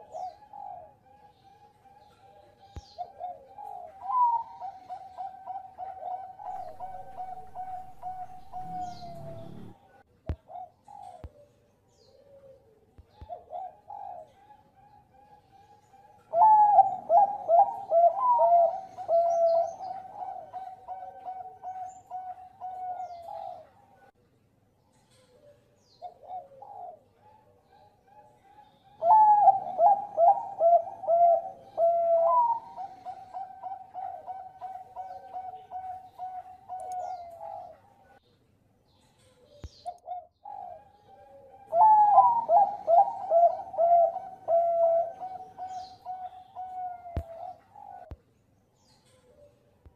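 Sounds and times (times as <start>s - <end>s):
dove cooing: 0.0s - 24.1s, 25.1s - 38.2s, 39.2s - 48.2s.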